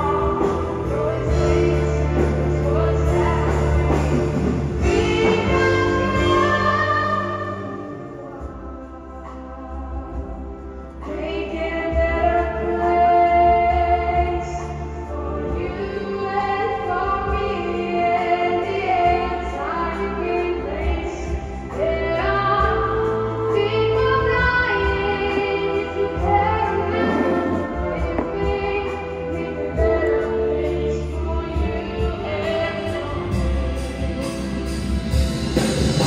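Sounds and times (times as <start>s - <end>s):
orchestra playing: 0.0s - 19.8s, 20.7s - 36.0s.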